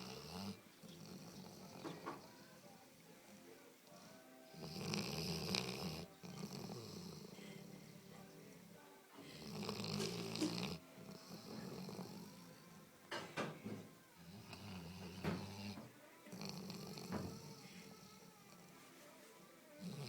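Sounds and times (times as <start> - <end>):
dog snoring: 0.0 - 2.8, 3.8 - 18.8, 19.7 - 20.0
dog breathing: 0.0 - 18.9.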